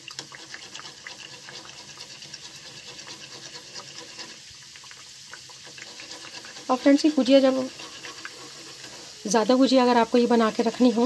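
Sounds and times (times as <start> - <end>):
food frying in hot oil: 0.0 - 11.0.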